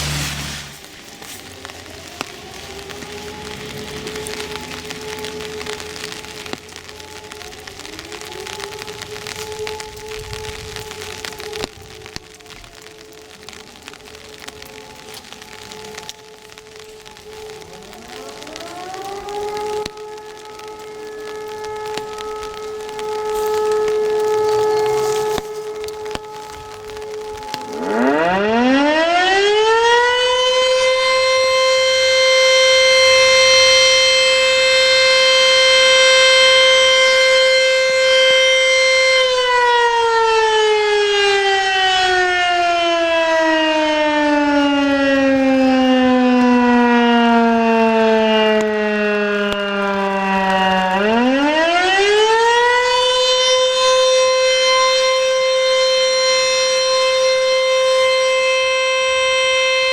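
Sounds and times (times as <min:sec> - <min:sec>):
electric motor siren: 0:00.0 - 0:59.9.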